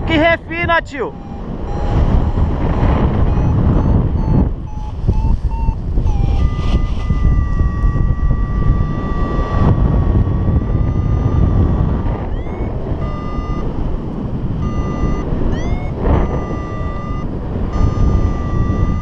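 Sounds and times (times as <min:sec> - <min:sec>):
wind rush on microphone: 0:00.0 - 0:19.0
short beeps: 0:00.1 - 0:02.2, 0:03.2 - 0:13.9, 0:14.6 - 0:19.0
variometer electronic tone: 0:00.1 - 0:19.0
rising electronic chirp: 0:01.0 - 0:02.0, 0:03.2 - 0:13.7, 0:14.6 - 0:19.0.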